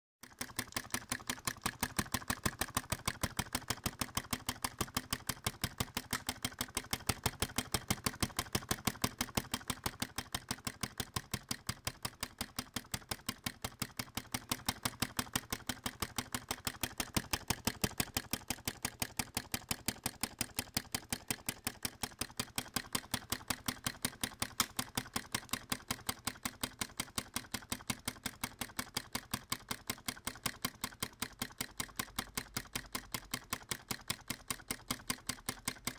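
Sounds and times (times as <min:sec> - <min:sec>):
mechanism clicking fast: 0:00.2 - 0:35.9.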